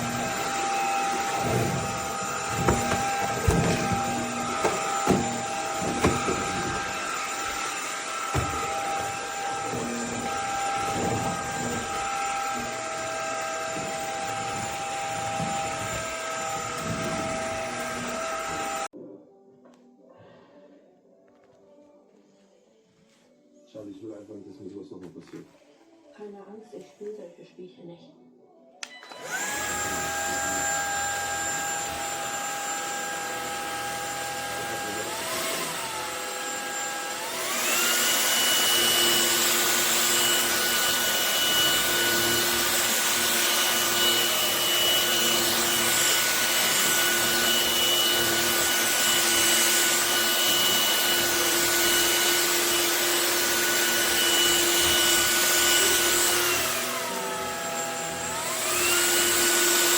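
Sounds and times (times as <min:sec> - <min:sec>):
stick vacuum motor whining: 0:00.0 - 0:18.9, 0:28.8 - 0:59.9.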